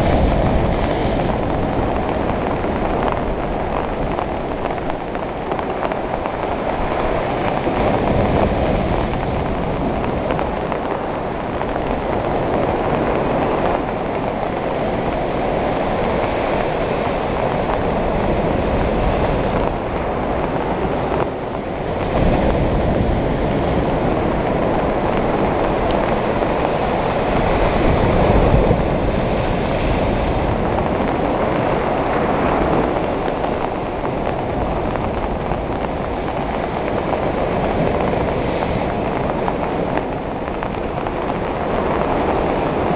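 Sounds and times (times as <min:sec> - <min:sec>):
sea waves breaking on beach: 0:00.0 - 0:42.9.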